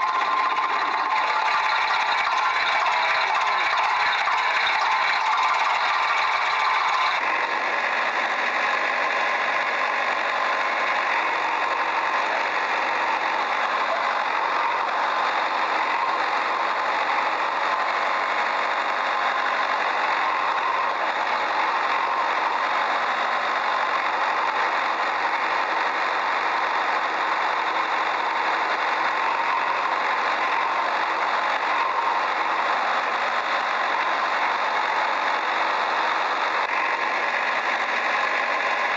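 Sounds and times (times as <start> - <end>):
small motor rattling: 0.0 - 38.9.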